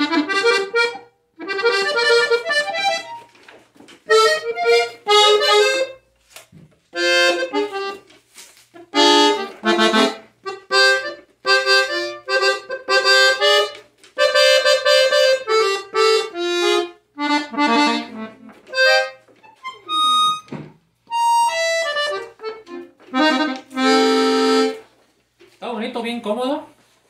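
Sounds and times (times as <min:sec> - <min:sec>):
button accordion played haltingly: 0:00.0 - 0:03.3, 0:04.1 - 0:06.1, 0:07.0 - 0:08.1, 0:08.8 - 0:20.5, 0:21.1 - 0:24.9.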